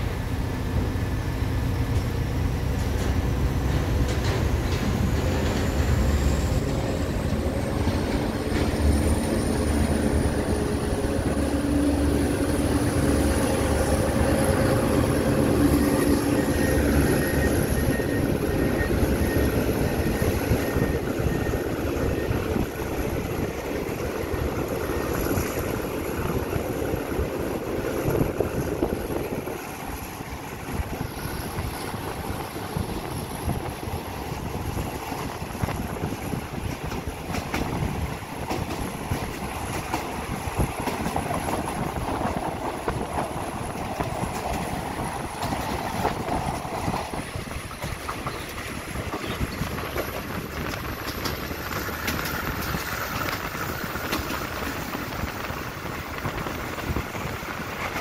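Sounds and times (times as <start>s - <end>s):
diesel locomotive engine: 0.0s - 58.0s
moving train rumble: 0.0s - 58.0s.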